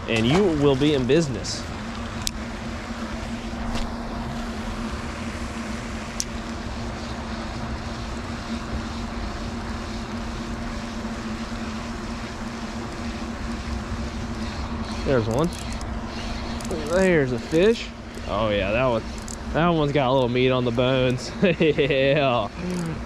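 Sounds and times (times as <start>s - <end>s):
fishing reel gears whirring: 0.0s - 23.0s.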